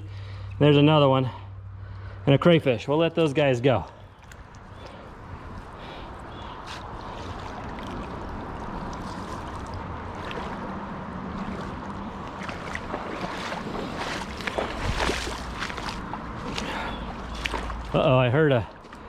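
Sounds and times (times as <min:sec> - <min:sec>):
creek water running: 0:02.7 - 0:19.0
wading splashes in water: 0:03.2 - 0:19.0.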